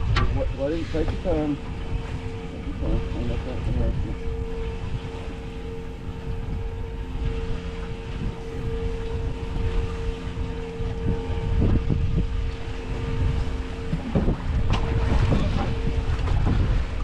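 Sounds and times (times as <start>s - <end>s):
boat motor humming: 0.0s - 17.0s
wind on microphone: 0.0s - 17.0s.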